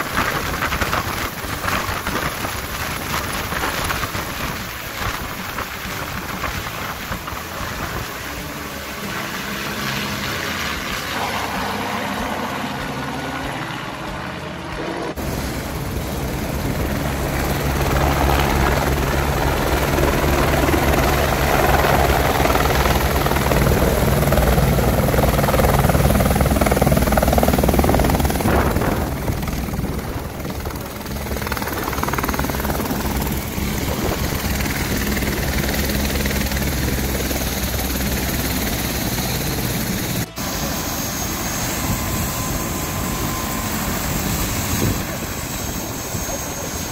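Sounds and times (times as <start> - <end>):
helicopter rotor beating: 0.0 - 46.9.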